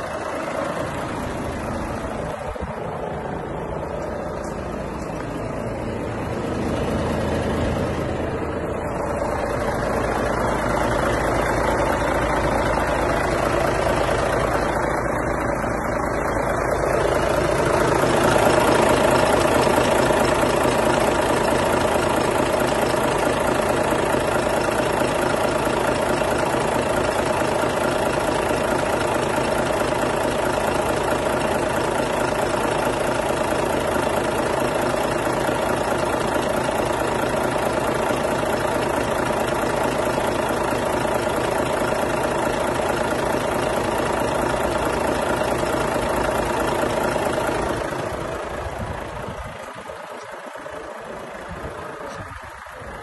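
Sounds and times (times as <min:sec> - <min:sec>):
truck diesel engine idling: 0:00.0 - 0:53.0.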